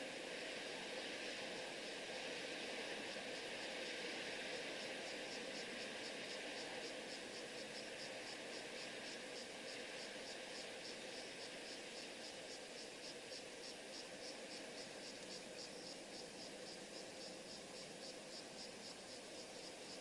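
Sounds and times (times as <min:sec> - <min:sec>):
steady background hiss: 0:00.0 - 0:20.0
cricket chirping: 0:01.4 - 0:20.0.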